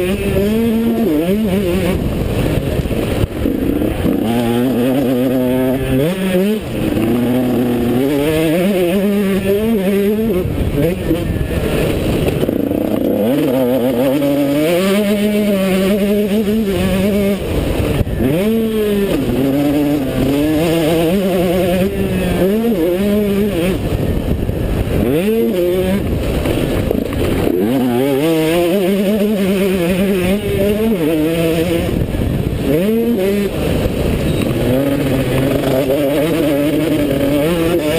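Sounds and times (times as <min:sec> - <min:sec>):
motocross bike engine revving: 0:00.0 - 0:37.9
wind on microphone: 0:00.0 - 0:37.9.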